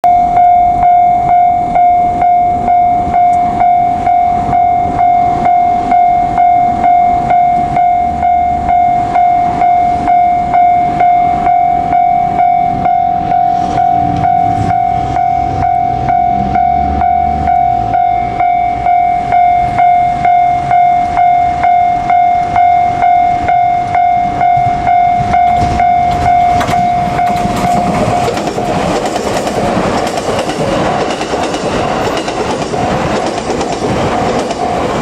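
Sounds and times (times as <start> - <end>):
level-crossing warning bell ringing: 0.0 - 35.0
low rumble of approaching train: 0.1 - 35.0.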